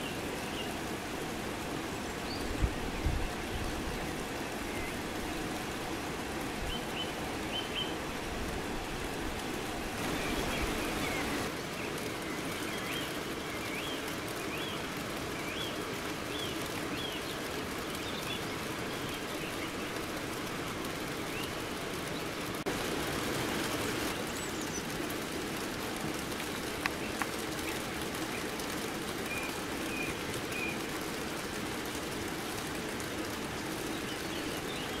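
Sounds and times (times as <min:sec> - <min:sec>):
birds chirping: 0:00.0 - 0:22.6, 0:23.4 - 0:35.0
steady rain falling: 0:00.0 - 0:35.0.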